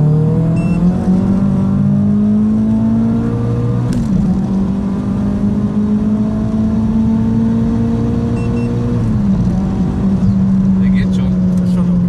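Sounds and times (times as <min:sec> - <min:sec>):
turbocharged car engine accelerating: 0:00.0 - 0:12.0.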